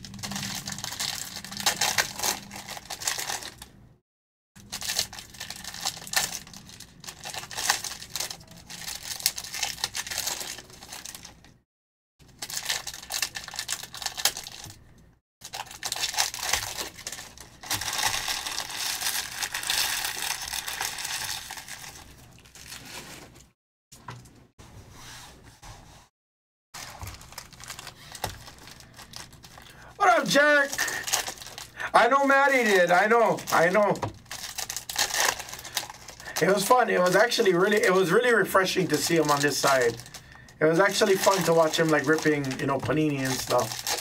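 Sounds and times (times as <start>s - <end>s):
foil wrappers crinkling and tearing: 0.0s - 3.7s, 4.6s - 11.6s, 12.2s - 14.8s, 15.4s - 23.5s, 26.8s - 44.0s.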